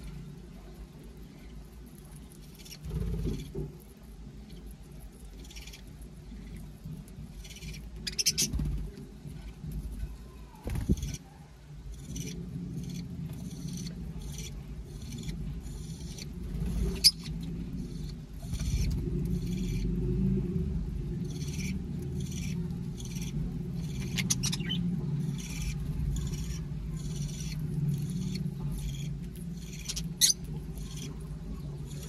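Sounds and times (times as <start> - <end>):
small parrots chirping and squeaking: 0.0 - 20.0, 21.0 - 32.0
steady low rumble: 0.0 - 32.0.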